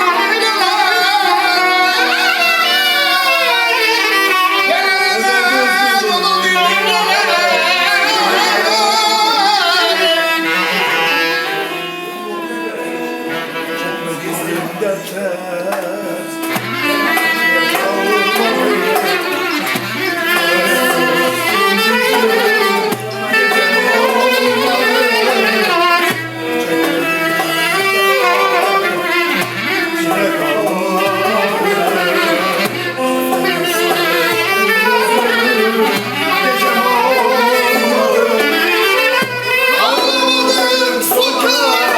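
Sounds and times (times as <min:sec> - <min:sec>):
person singing with instruments: 0:00.0 - 0:41.9.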